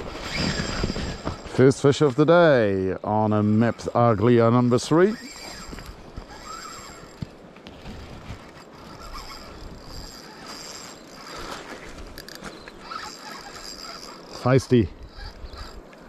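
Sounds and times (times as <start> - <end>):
fishing reel spinning: 0.0 - 1.7, 3.4 - 16.0
river current rushing: 0.0 - 16.0.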